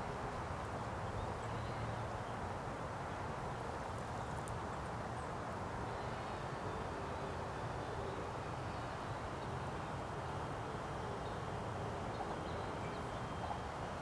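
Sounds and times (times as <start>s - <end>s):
low outdoor hum: 0.0s - 14.0s.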